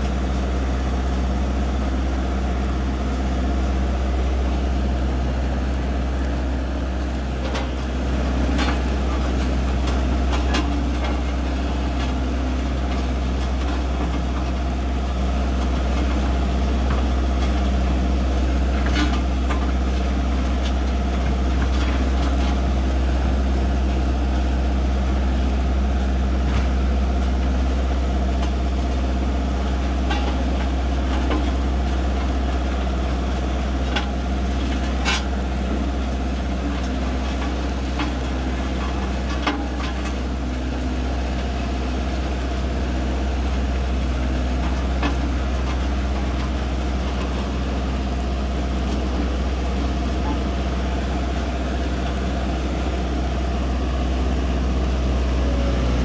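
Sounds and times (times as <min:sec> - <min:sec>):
road roller diesel engine: 0:00.0 - 0:56.0.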